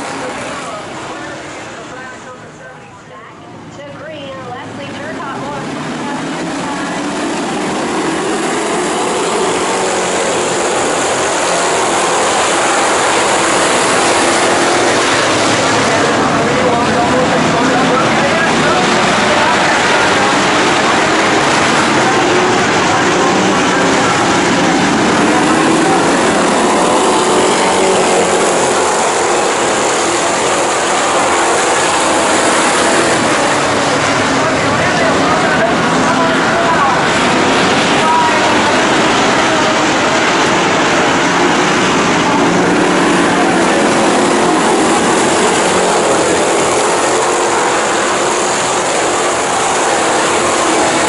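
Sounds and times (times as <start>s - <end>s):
race car engines roaring: 0.0s - 51.0s.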